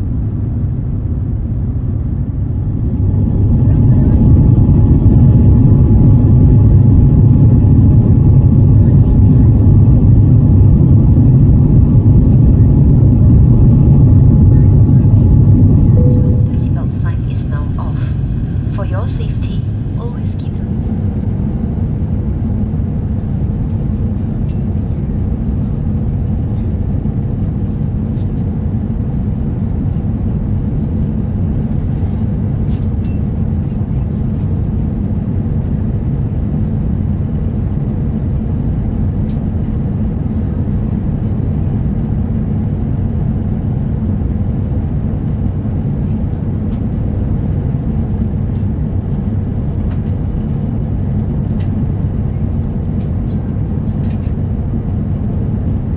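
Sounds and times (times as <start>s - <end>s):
airliner cabin engine roar: 0.0s - 55.9s.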